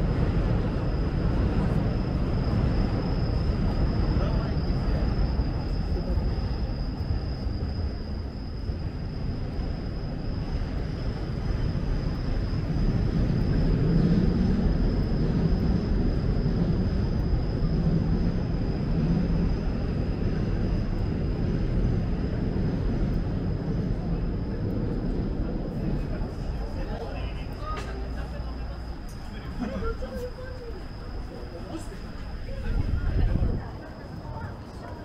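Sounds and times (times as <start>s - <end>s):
low rumble of passing vehicles: 0.0s - 35.0s.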